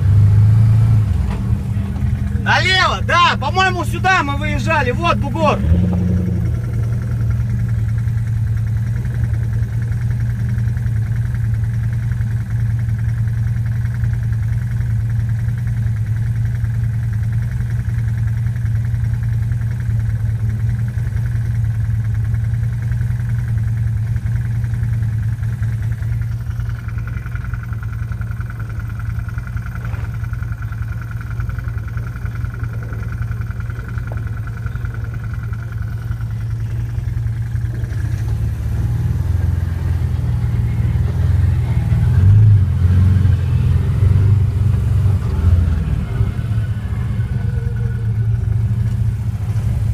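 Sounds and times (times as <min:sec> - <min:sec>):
car engine running at low revs: 0:00.0 - 0:49.9.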